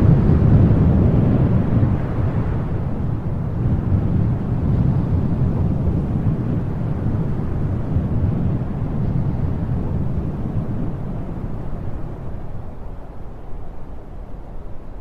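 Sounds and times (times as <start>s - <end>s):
wind rushing rumble: 0.0s - 15.0s.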